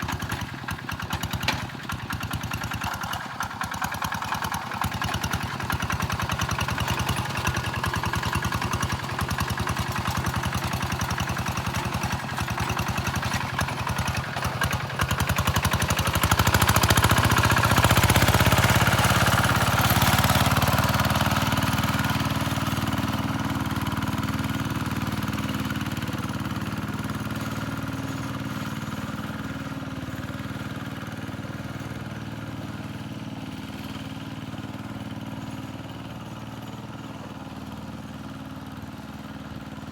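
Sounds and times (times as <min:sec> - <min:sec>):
tractor engine at full throttle: 0:00.0 - 0:39.9.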